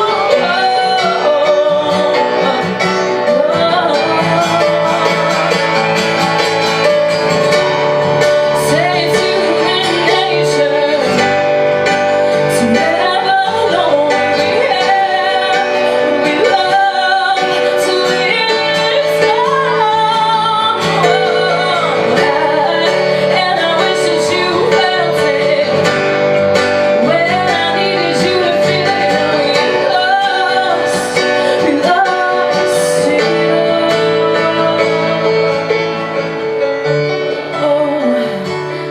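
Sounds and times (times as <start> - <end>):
plucked acoustic strings: 0.0 - 38.9
woman singing: 0.0 - 38.9.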